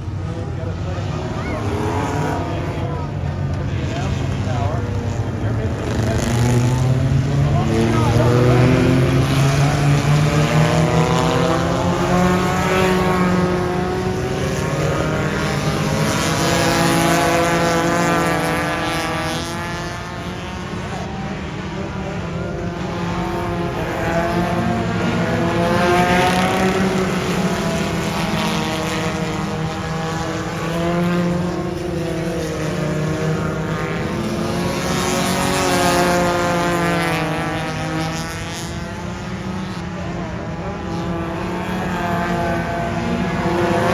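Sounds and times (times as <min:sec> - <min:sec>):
race car engines passing: 0:00.0 - 0:43.9.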